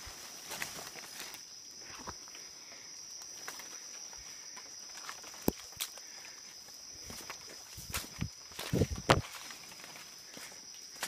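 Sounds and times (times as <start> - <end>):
footsteps through undergrowth: 0.0 - 2.5, 3.2 - 11.0
night insects droning: 0.0 - 11.0.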